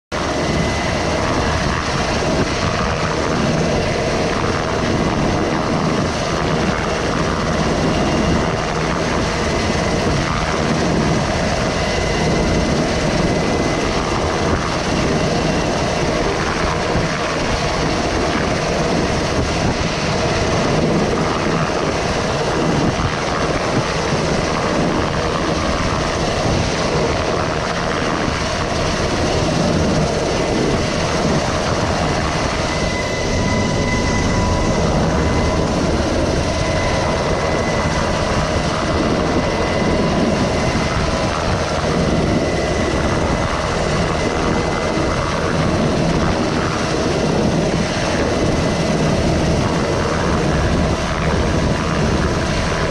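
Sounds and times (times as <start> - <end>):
helicopter rotor and turbine: 0.1 - 52.9.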